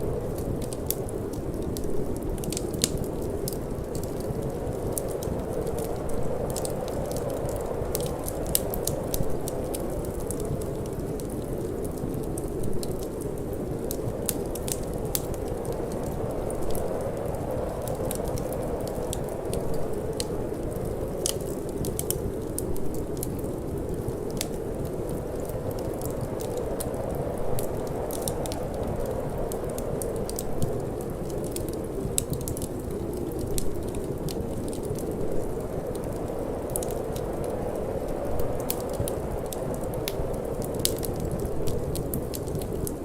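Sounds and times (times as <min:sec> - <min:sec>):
low rush of wind: 0:00.0 - 0:43.0
wood fire crackling and popping: 0:00.0 - 0:43.0.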